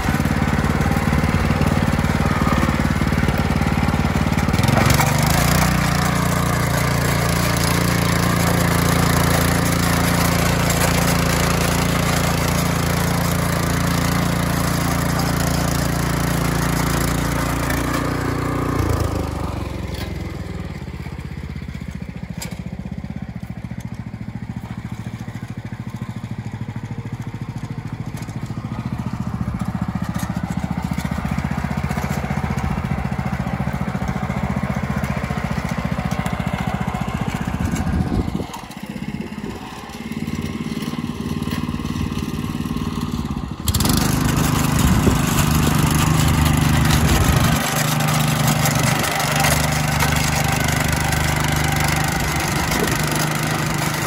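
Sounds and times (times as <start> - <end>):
walking tractor engine under load: 0.0 - 54.0.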